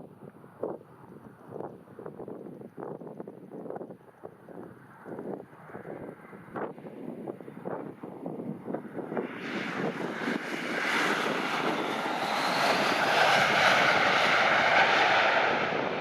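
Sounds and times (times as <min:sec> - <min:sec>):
wind buffeting microphone: 0:00.0 - 0:16.0
jet engine noise: 0:00.4 - 0:16.0.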